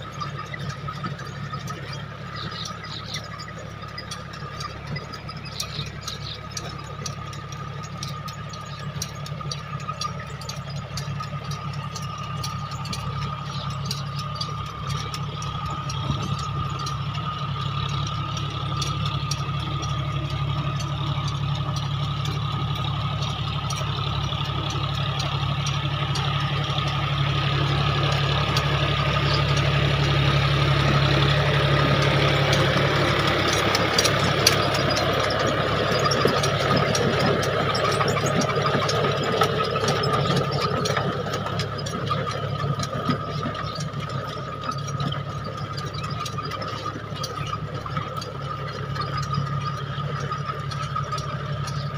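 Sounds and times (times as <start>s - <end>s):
tractor diesel engine: 0.0s - 51.9s.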